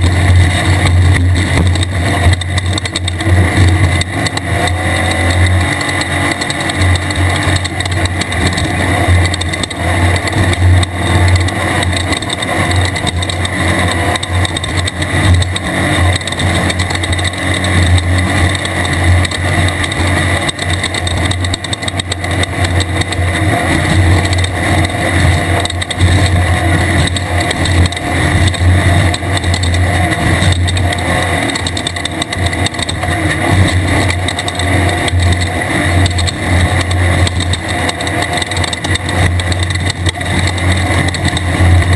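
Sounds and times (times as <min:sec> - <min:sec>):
race car engine running hard: 0:00.0 - 0:41.9.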